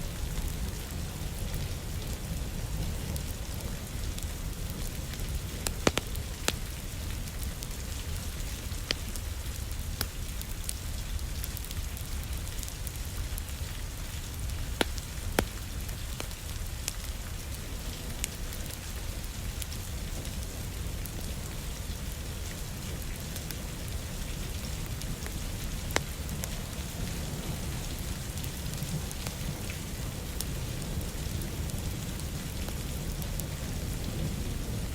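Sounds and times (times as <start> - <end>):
crackling wood fire: 0.0 - 34.9
steady rain: 0.0 - 34.9.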